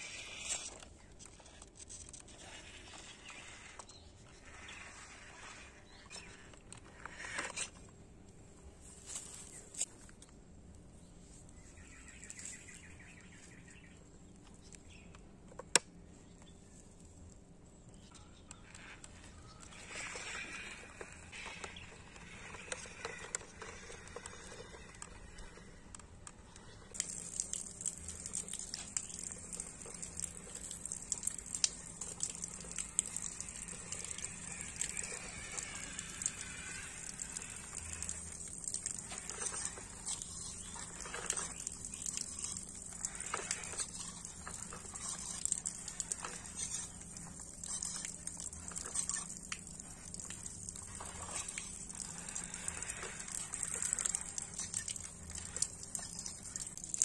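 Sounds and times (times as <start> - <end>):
toy wheels splashing through water: 0.0 - 7.8, 11.8 - 14.0, 18.6 - 57.0.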